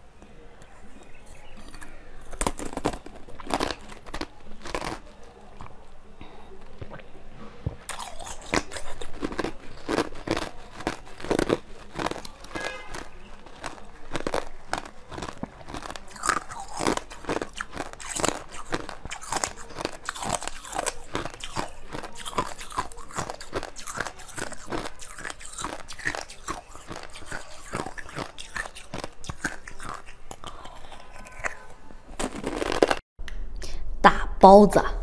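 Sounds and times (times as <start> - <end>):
biting and chewing jelly: 0.6 - 33.0.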